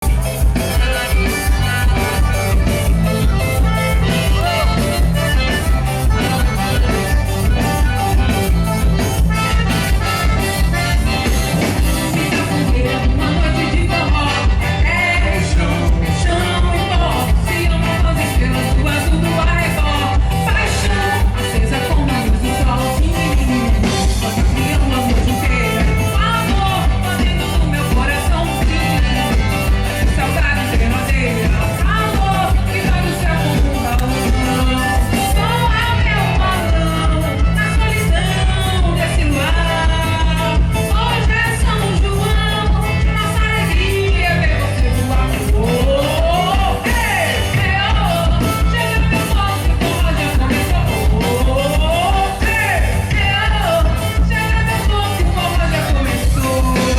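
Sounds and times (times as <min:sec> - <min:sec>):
accordion band music: 0:00.0 - 0:56.9
steady drum beat: 0:00.0 - 0:56.9.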